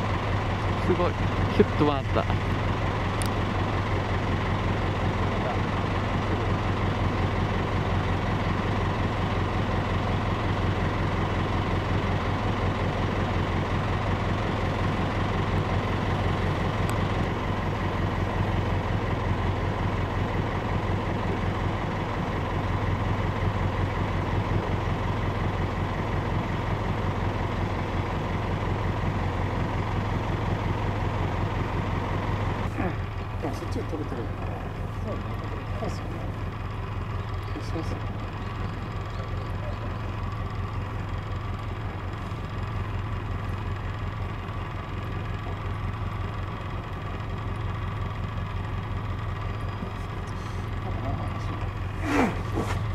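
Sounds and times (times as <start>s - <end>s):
engine running steadily: 0.0s - 52.9s.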